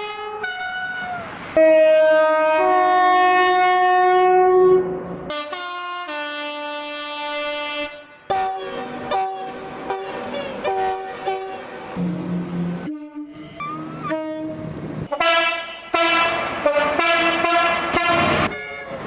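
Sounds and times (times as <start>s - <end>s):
train horn short toots: 0.0s - 19.0s
two-tone train horn blast: 0.0s - 19.0s.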